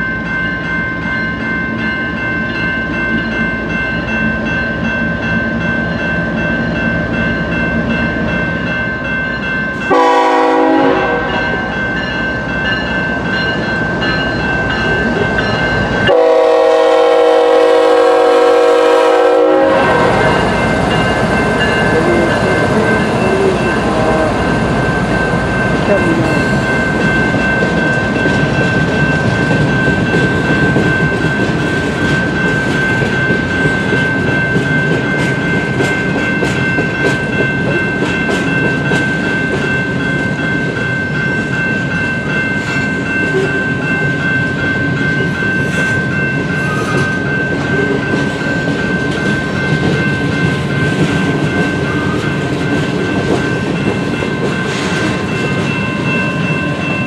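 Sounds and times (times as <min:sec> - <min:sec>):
crossing warning bells: 0:00.0 - 0:57.0
freight train rolling past: 0:00.0 - 0:57.0.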